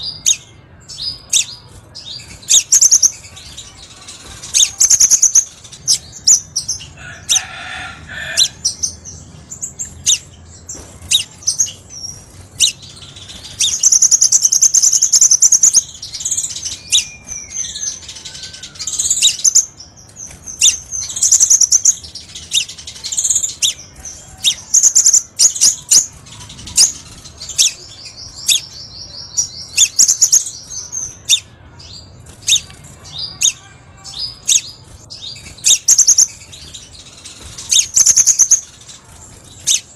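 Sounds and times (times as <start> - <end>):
bird chirping: 0.0 - 39.9
buzzy bird trills: 0.0 - 39.9.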